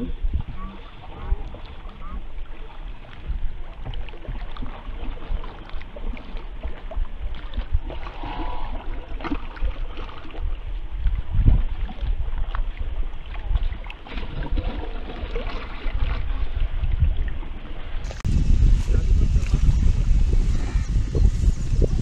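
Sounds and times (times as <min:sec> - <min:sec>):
paddles splashing in water: 0:00.0 - 0:22.0
wind on microphone: 0:00.0 - 0:22.0.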